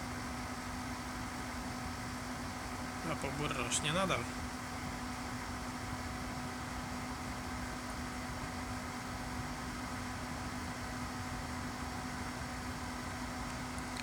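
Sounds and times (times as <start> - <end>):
portable air conditioner humming: 0.0 - 14.0.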